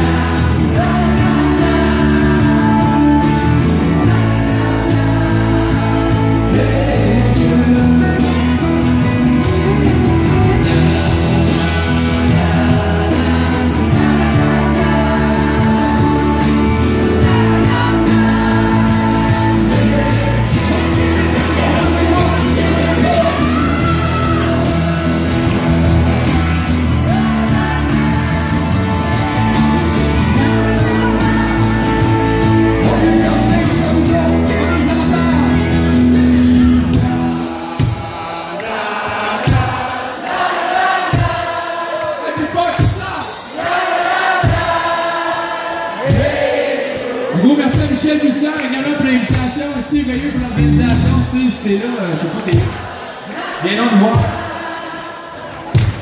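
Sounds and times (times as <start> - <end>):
people singing together: 0.0 - 48.2, 50.5 - 56.0
drums: 0.0 - 56.0
guitars: 0.0 - 56.0.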